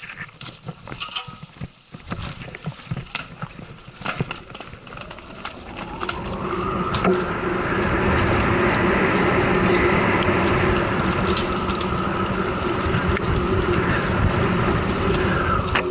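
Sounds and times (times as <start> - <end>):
bike rattling over ground: 0.0 - 15.9
tyre rumble: 0.0 - 15.9.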